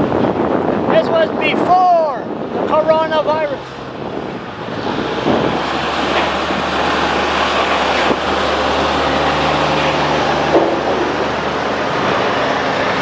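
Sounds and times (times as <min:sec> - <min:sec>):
sawmill machinery running: 0:02.3 - 0:13.0.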